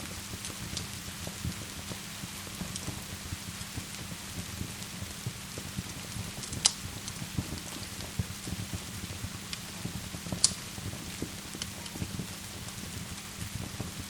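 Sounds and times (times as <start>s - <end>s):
rain pattering: 0.0s - 14.0s
wood fire crackling: 0.0s - 14.0s.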